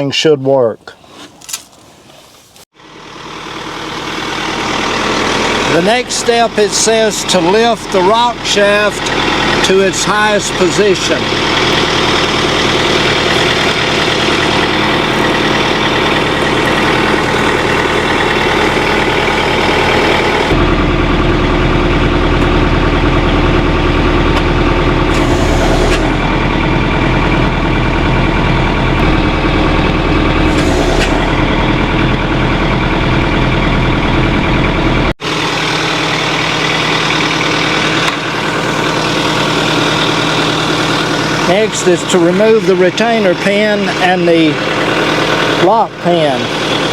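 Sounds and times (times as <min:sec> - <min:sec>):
tractor engine running: 0:02.7 - 0:46.9.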